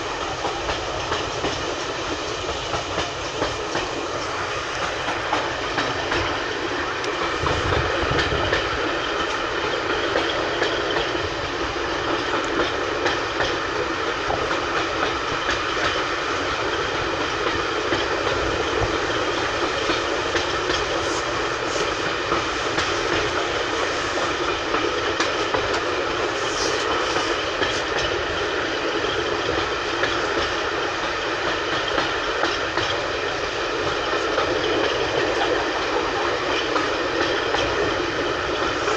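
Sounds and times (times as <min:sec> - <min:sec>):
train coach rumbling on track: 0:00.0 - 0:38.9
wheels clicking over rail joints: 0:00.0 - 0:38.9.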